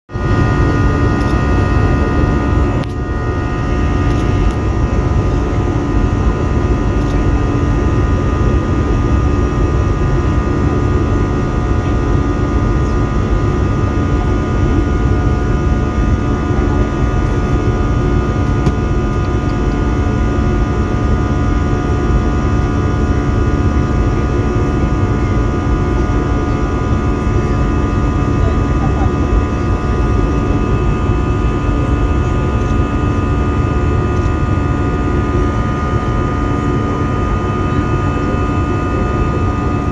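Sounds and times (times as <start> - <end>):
jet engines heard from cabin: 0.1 - 39.9.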